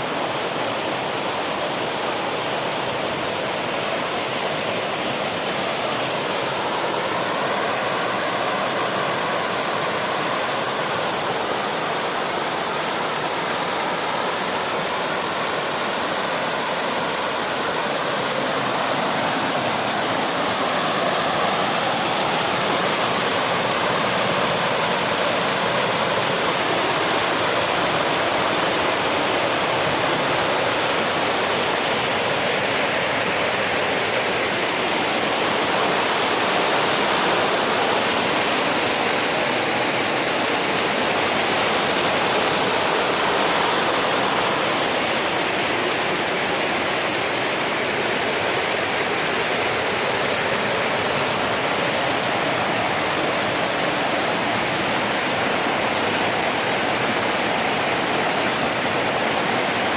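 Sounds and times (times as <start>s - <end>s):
rushing mountain water: 0.0s - 59.9s.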